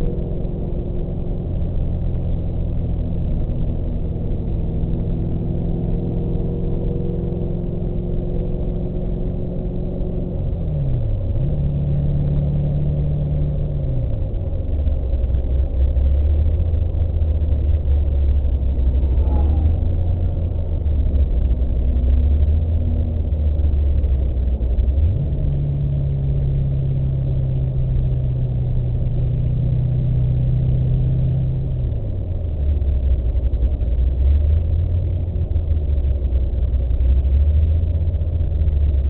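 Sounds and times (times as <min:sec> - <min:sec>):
car engine from inside cabin: 0:00.0 - 0:39.0.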